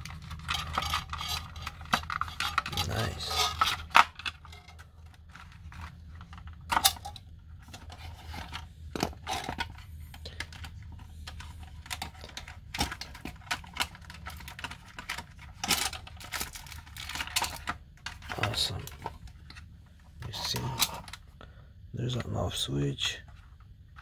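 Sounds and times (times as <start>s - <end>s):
plastic toy clicks and rattles: 0.0s - 19.6s.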